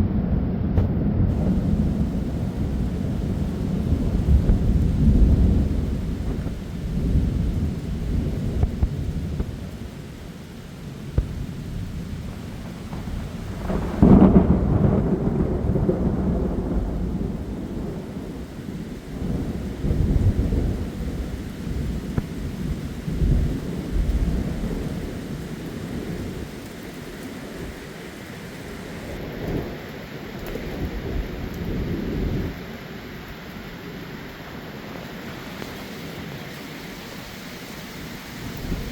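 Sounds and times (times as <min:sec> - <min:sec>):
thunder cracking and rumbling: 0:00.0 - 0:27.9, 0:28.7 - 0:37.1, 0:38.0 - 0:38.9
heavy rain: 0:00.0 - 0:38.9.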